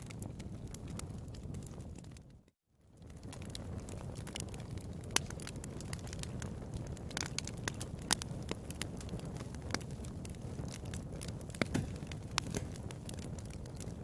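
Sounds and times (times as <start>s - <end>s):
fire crackling: 0.0s - 14.0s
flames rumbling: 0.0s - 14.0s
sharp pops of fire: 0.0s - 14.0s.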